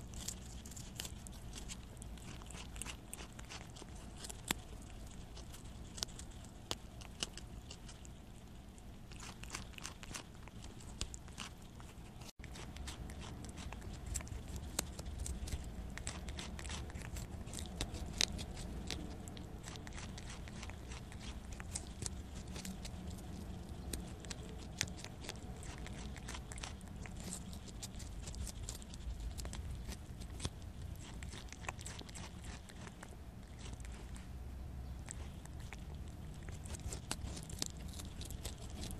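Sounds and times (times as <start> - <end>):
prairie dog chewing: 0.0 - 38.9.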